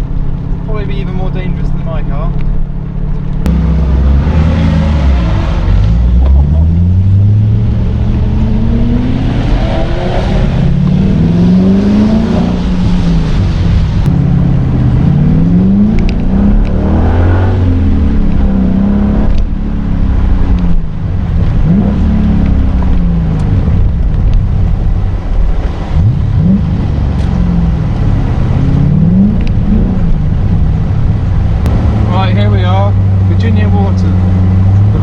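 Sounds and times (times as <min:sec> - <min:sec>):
sports car engines accelerating: 0:00.0 - 0:35.0
tyres on wet road: 0:00.0 - 0:35.0
wind noise: 0:02.5 - 0:33.3.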